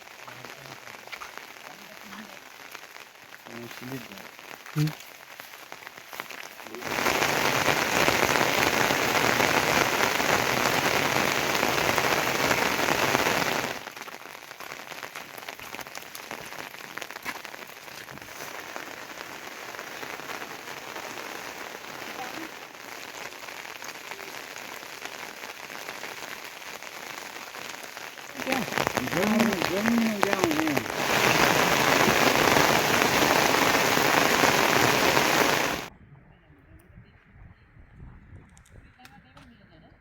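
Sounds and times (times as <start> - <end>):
rainfall: 0.0 - 35.9.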